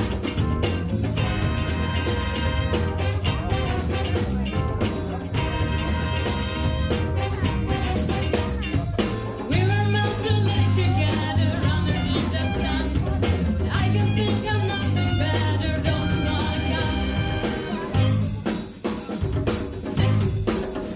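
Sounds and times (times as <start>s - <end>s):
big band music: 0.0s - 20.9s.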